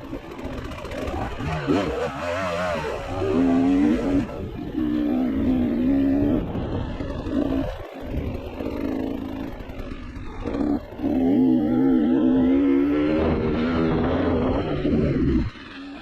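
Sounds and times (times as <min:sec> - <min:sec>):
off-road motorcycle engine: 0:00.0 - 0:16.0.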